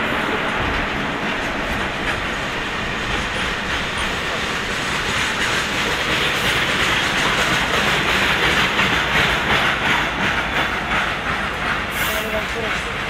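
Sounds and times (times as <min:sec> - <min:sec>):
freight train wheels clattering: 0:00.0 - 0:13.0
train rumble: 0:00.0 - 0:13.0.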